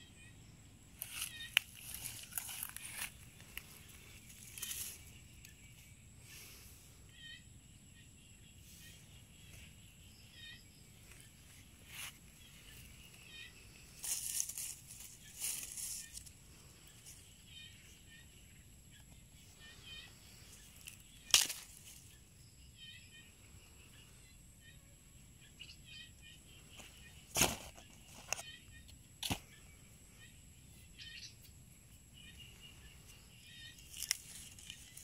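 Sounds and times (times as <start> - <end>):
faint chirp: 0.0 - 35.0
outdoor rustling: 0.8 - 7.3, 8.2 - 24.3, 25.4 - 35.0.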